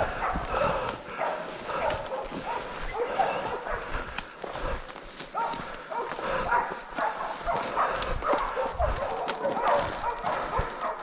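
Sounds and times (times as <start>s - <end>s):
dogs barking: 0.0s - 11.0s
twigs cracking underfoot: 0.0s - 11.0s.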